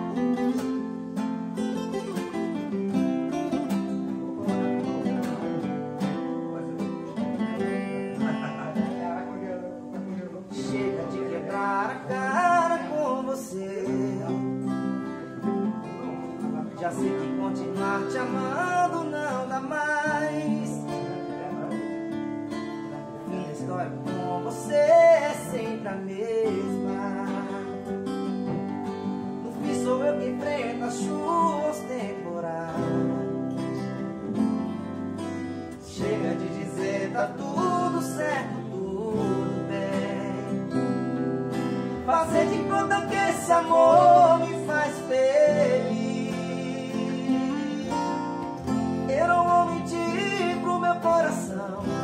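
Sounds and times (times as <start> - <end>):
acoustic guitars strumming: 0.0 - 52.0.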